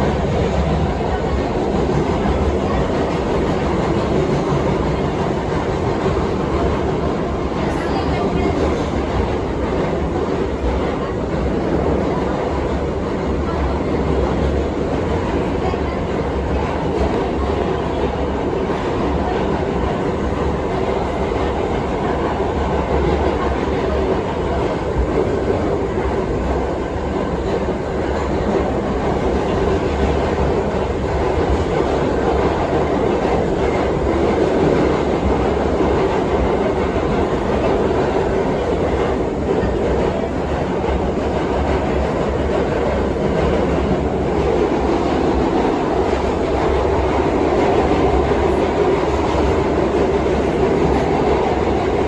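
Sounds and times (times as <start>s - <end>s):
clickety-clack of rail joints: 0.0s - 52.0s
subway car wheels rumbling on rail: 0.0s - 52.0s.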